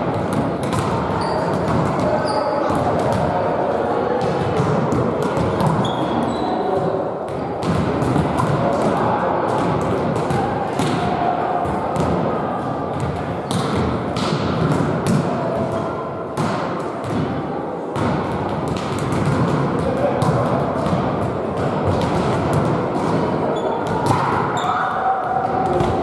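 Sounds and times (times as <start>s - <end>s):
voices in sports hall: 0.0s - 26.0s
volleyballs struck and bouncing: 0.0s - 26.0s.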